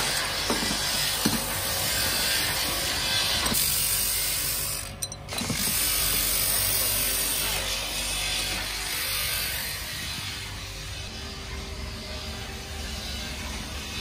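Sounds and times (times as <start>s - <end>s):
grinding wheel grinding: 0.0s - 14.0s.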